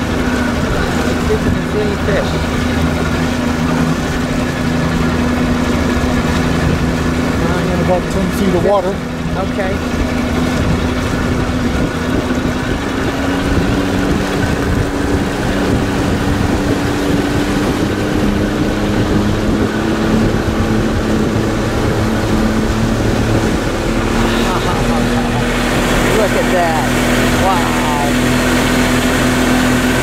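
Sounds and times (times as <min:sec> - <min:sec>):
outboard motor droning: 0:00.0 - 0:30.0
water rushing past hull: 0:00.0 - 0:30.0.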